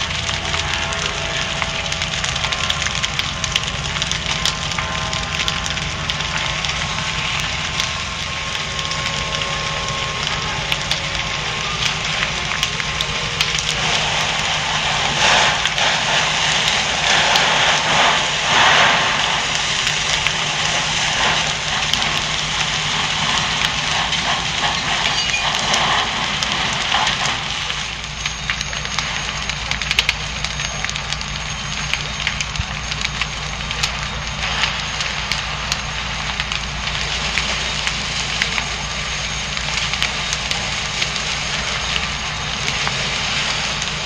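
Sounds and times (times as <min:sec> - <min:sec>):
fire crackling and hissing: 0:00.0 - 0:44.0
steady low hum: 0:00.0 - 0:44.0.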